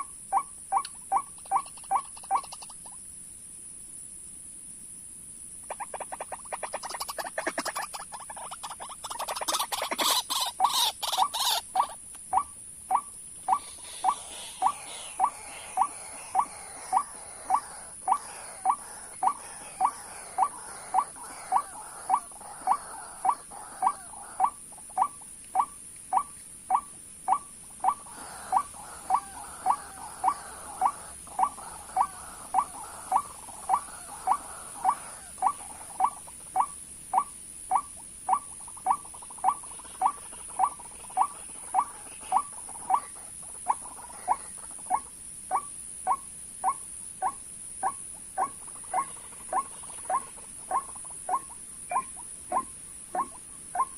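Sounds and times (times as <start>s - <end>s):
waterhen call: 5.6s - 53.9s.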